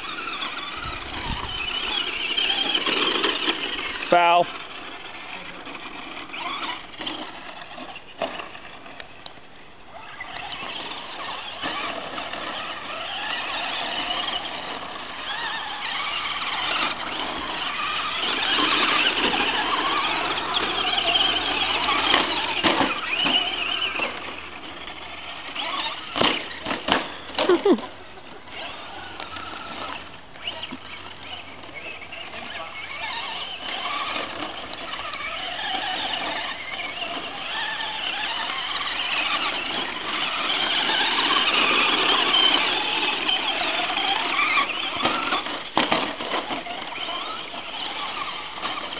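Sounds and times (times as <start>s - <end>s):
electric toy car motors whining: 0.0s - 48.9s.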